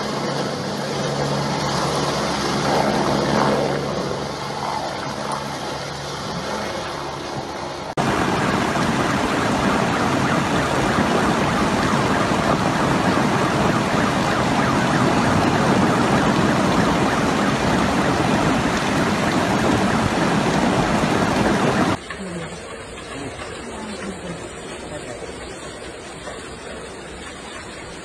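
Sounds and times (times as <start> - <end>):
heavy rain and floodwater rushing: 0.0 - 28.0.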